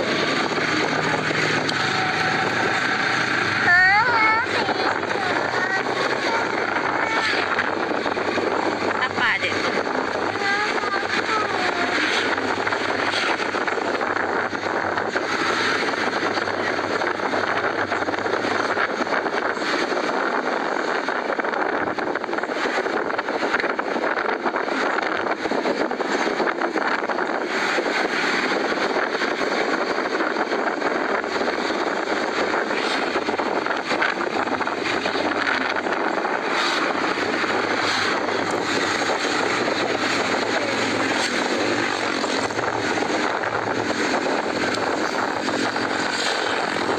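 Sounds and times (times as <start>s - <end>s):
motorcycle running: 0.0s - 46.9s
wind and road noise: 0.0s - 46.9s
wind buffeting microphone: 0.0s - 46.9s.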